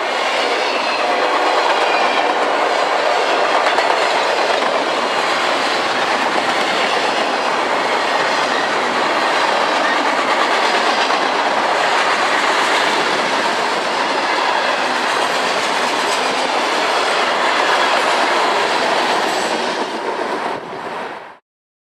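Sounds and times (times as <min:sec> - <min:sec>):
train wheels clattering over rails: 0:00.8 - 0:20.9.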